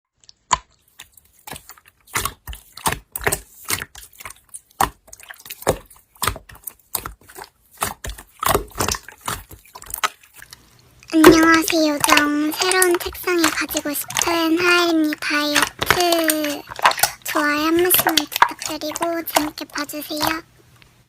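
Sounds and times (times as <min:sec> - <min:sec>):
slime squished by hand: 0:00.2 - 0:20.5.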